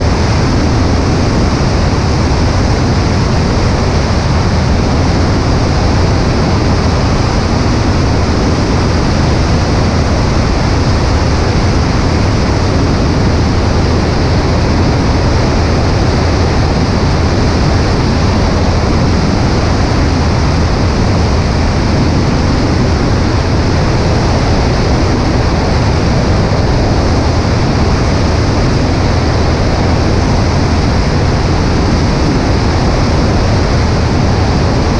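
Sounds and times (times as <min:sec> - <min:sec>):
airflow rushing past: 0:00.0 - 0:34.9
light aircraft engine drone: 0:00.0 - 0:34.9.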